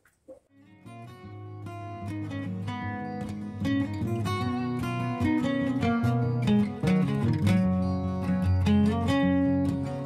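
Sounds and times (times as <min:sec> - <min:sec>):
acoustic guitar strumming: 0:00.6 - 0:10.0.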